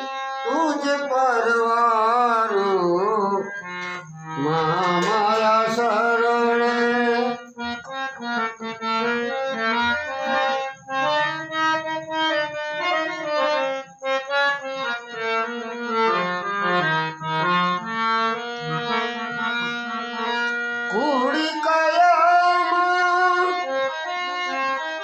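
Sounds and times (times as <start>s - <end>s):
instrumental melody: 0.0s - 25.0s.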